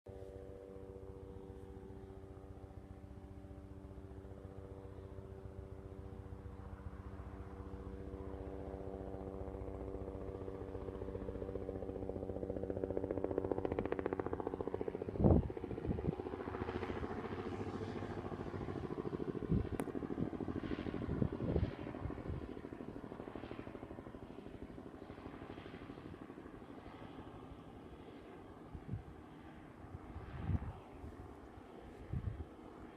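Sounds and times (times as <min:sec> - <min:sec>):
helicopter rotor beat: 0:00.2 - 0:32.9.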